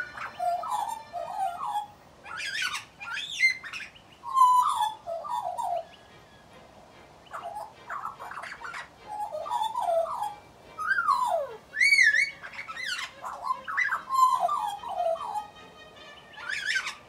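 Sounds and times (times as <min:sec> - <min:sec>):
magpie singing: 0:00.0 - 0:17.0.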